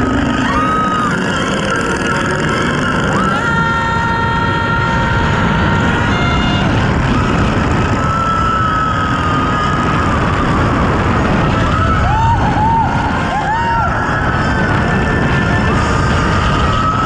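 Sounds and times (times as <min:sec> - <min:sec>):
long high held tone: 0:00.0 - 0:17.0
roller coaster rumbling on track: 0:00.0 - 0:17.0
rush of wind: 0:00.0 - 0:17.0.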